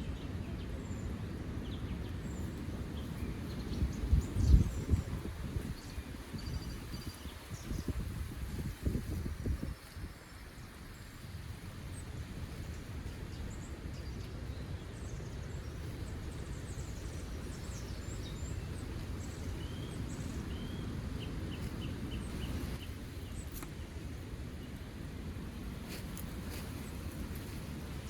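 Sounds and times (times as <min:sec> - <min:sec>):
small birds chirping: 0:00.0 - 0:24.9
low wind rumble: 0:00.0 - 0:28.0.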